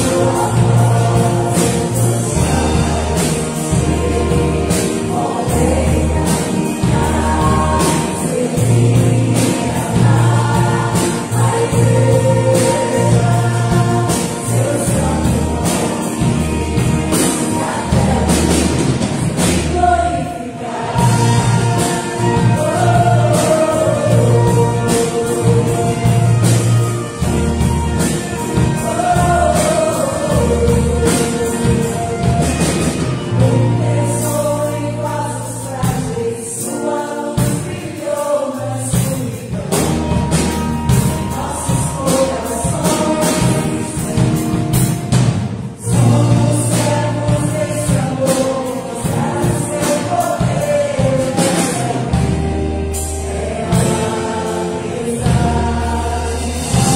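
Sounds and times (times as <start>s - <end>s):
electric bass: 0.0s - 36.3s, 38.6s - 56.9s
choir singing: 0.0s - 56.9s
drum kit: 0.0s - 56.9s
keyboard: 0.0s - 56.9s.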